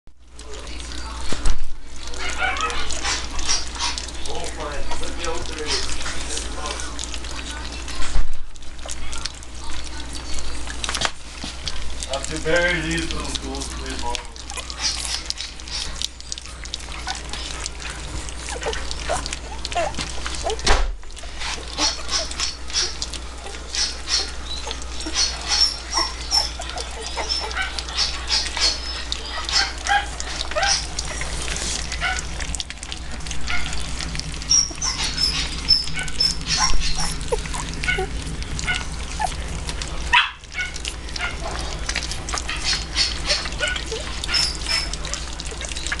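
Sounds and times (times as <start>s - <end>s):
puppies lapping food: 0.1s - 46.0s
puppies squeaking and whimpering: 0.5s - 46.0s.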